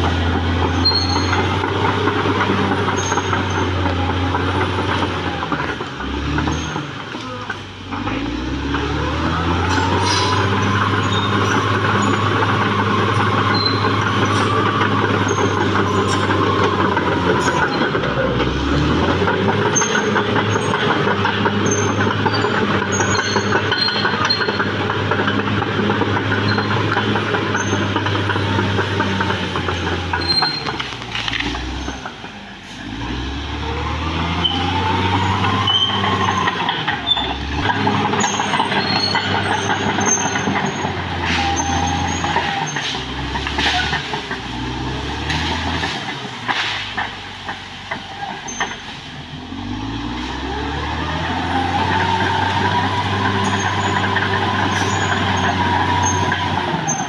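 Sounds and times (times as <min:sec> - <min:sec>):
bulldozer diesel engine running: 0:00.0 - 0:57.0
steel tracks squeaking: 0:00.0 - 0:57.0.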